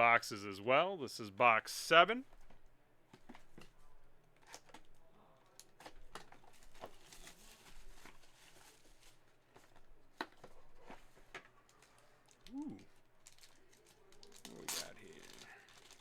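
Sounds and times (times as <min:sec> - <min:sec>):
cards and packaging clicks and rustles: 0:02.2 - 0:16.0.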